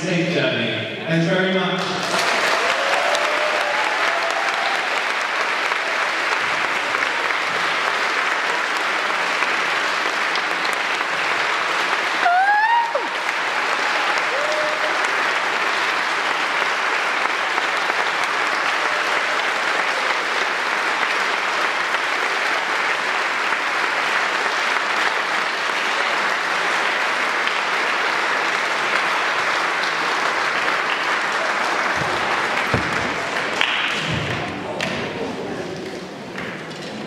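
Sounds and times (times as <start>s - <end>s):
audience applauding: 1.8s - 36.8s.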